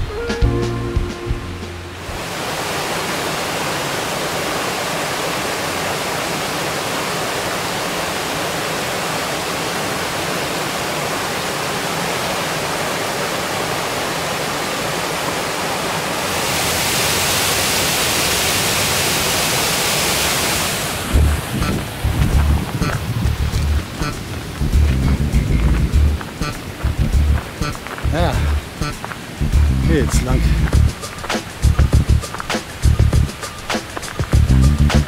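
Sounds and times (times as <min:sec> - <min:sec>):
stream water rushing: 0:01.5 - 0:35.0.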